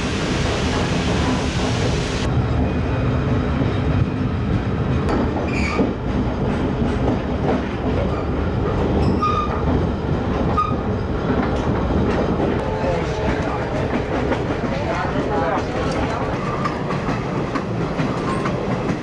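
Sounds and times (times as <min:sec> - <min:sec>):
train coach rumbling on rails: 0:00.0 - 0:19.0.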